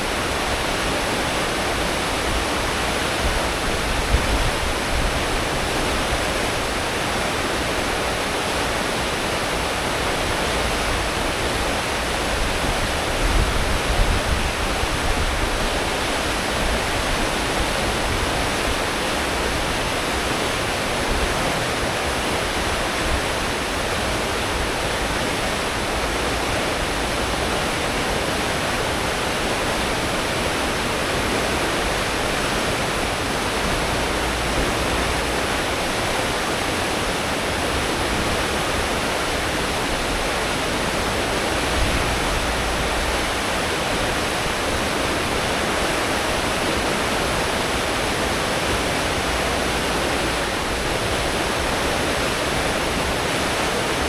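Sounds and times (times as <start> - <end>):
ship engine rumble: 0.0 - 54.0
ship wake churning: 0.0 - 54.0.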